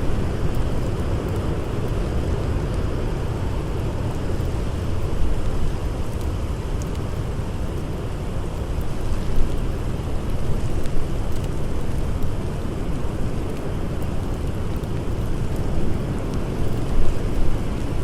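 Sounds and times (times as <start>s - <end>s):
campfire crackling faintly: 0.0s - 18.0s.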